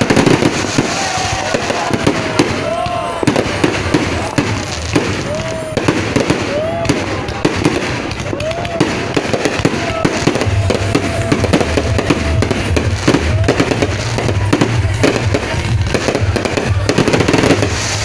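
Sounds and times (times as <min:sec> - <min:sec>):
fireworks bangs and crackling: 0:00.0 - 0:18.0
fireworks whistles: 0:00.0 - 0:18.0.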